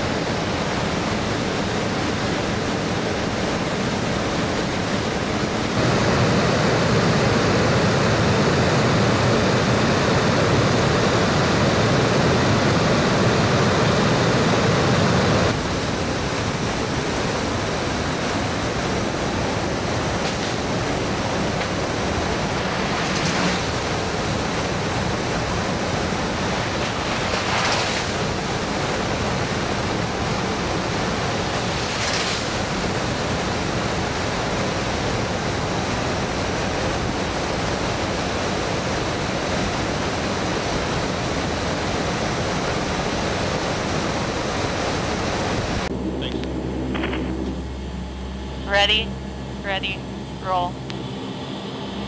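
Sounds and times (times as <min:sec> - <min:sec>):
aircraft engine noise: 0:00.0 - 0:52.0
airstream rushing: 0:00.0 - 0:52.0.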